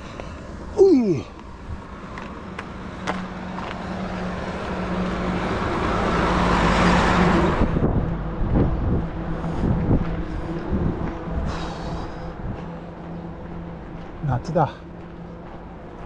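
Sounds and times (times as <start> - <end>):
heavy truck passing by: 0.0 - 16.0.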